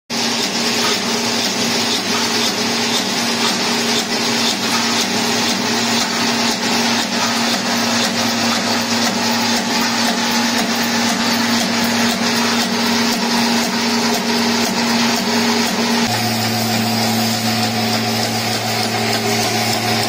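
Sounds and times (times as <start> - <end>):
machine whirring: 0.1 - 20.0.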